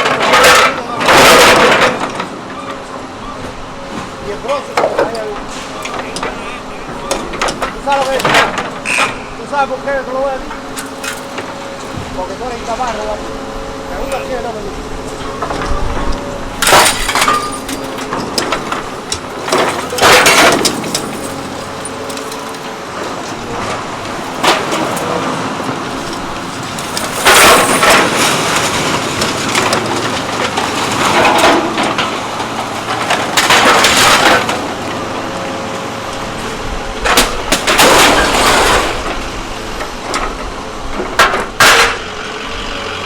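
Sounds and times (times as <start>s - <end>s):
scrap metal crashing: 0.0s - 13.1s, 14.2s - 42.2s
machine humming: 0.0s - 43.0s.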